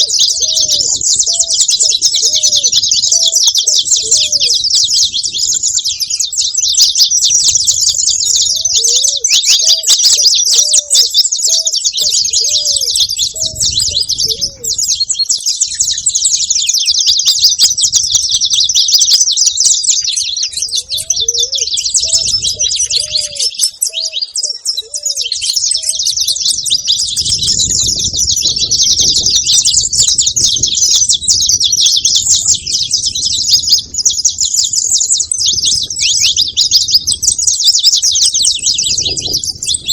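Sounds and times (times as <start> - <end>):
lower arching bird notes: 0.0 - 19.0, 19.9 - 39.9
finch chirping rapidly: 0.0 - 39.9.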